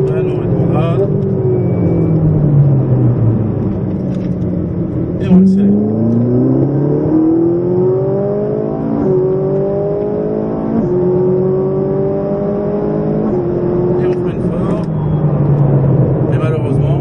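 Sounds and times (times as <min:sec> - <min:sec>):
car engine accelerating: 0:00.0 - 0:17.0
gear upshifts: 0:00.0 - 0:17.0.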